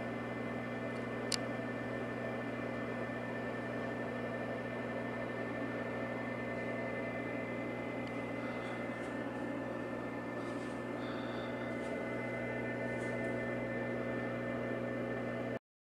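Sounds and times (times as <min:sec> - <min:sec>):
electrical equipment hum: 0:00.0 - 0:15.6.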